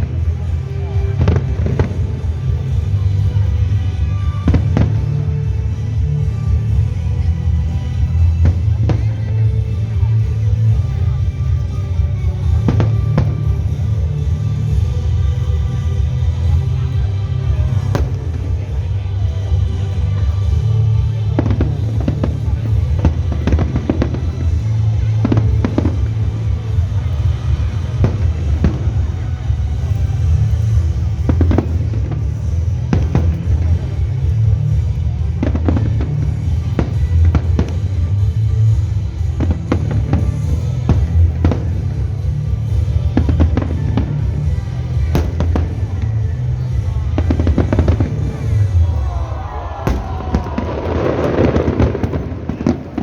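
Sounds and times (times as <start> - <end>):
fireworks bursting with sharp bangs: 0.0 - 53.0
steady low rumble: 0.0 - 53.0.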